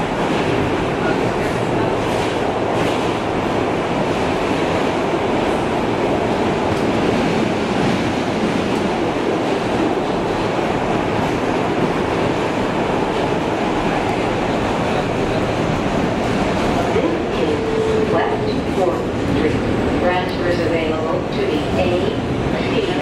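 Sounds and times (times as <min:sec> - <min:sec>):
subway train running through tunnel: 0:00.0 - 0:23.0.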